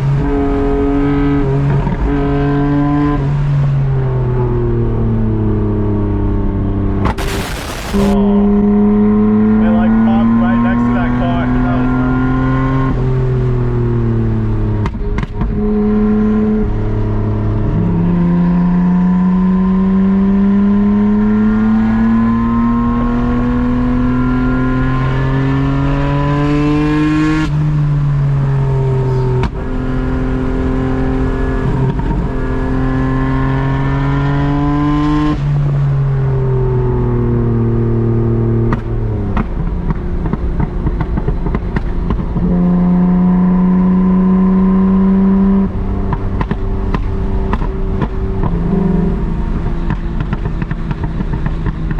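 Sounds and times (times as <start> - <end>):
car engine revving through gears: 0.0 - 51.9.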